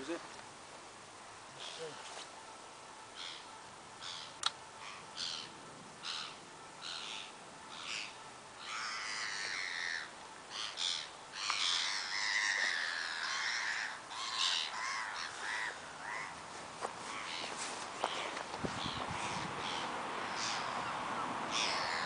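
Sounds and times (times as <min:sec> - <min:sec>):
crow-like bird cawing: 0:03.2 - 0:16.4, 0:17.0 - 0:22.0.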